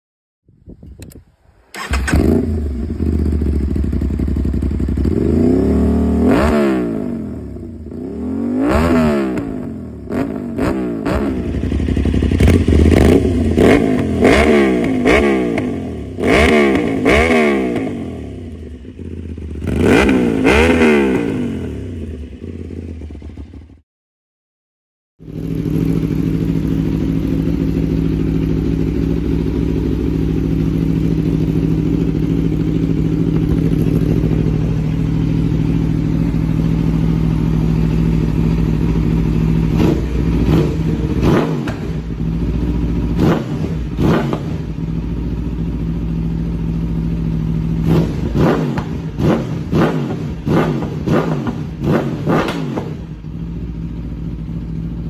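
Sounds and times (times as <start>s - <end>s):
motorcycle throttle blips: 0.7s - 6.9s, 7.9s - 23.7s, 25.3s - 55.0s
motorcycle idling: 1.8s - 23.8s, 25.2s - 55.0s.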